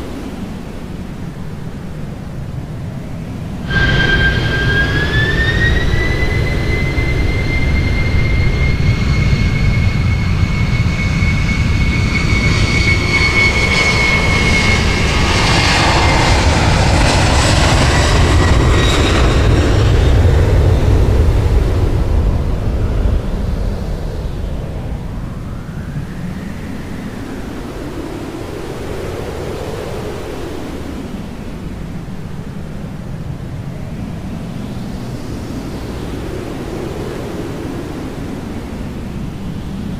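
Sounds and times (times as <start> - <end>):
jet engine deep rumble: 0.0 - 39.9
jet engine high whine: 0.0 - 39.9.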